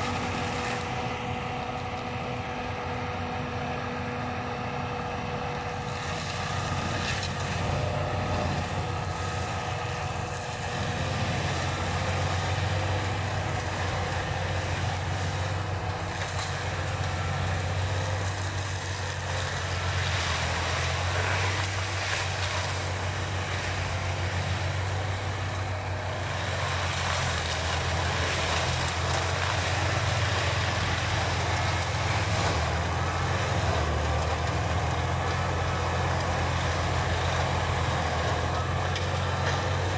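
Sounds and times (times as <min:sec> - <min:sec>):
flail mulcher grinding: 0:00.0 - 0:39.9
tractor diesel engine hum: 0:00.0 - 0:39.9.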